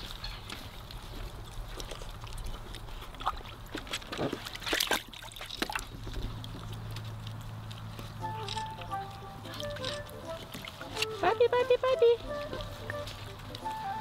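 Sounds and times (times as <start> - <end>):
water sloshing: 0.0 - 14.0.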